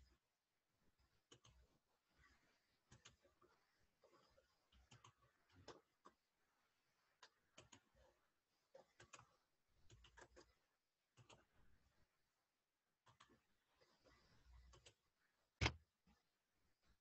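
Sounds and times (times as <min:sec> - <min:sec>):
faint irregular clicks: 0:01.0 - 0:11.9, 0:12.9 - 0:15.8.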